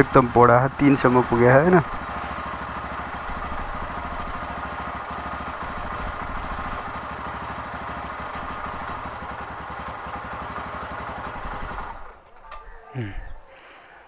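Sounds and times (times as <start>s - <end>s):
motorcycle engine high idle: 0.0s - 13.3s.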